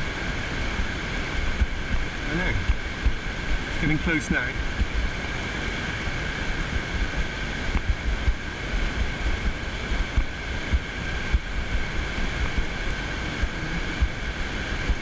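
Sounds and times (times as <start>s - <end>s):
surf waves washing on sand: 0.0s - 15.0s
wind buffeting microphone: 0.0s - 15.0s.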